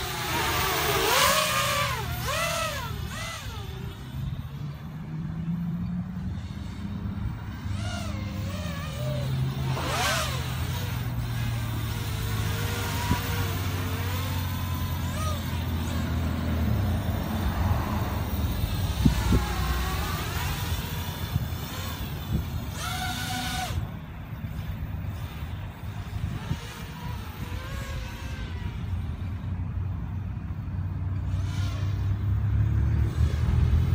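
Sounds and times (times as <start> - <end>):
drone propellers whining: 0.0 - 33.9
road traffic hum: 0.0 - 33.9.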